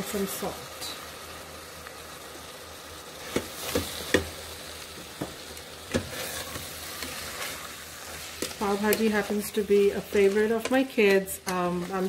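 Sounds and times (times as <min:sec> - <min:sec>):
vegetables sizzling in pot: 0:00.0 - 0:12.0.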